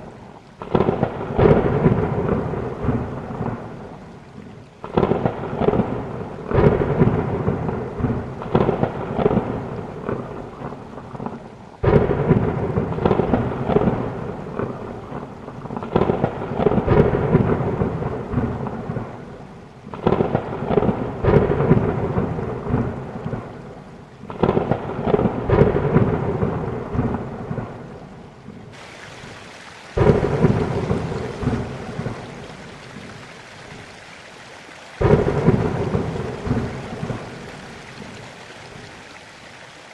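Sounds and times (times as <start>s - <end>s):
thunder rumbling: 0.0s - 34.0s, 35.0s - 38.9s
rain falling: 0.0s - 39.9s.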